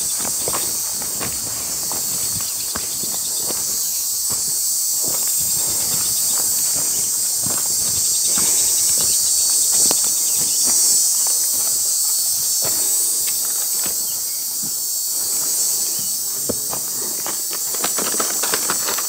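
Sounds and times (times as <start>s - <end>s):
footsteps on dry ground: 0.0s - 19.0s
insect chorus buzzing: 0.0s - 19.0s.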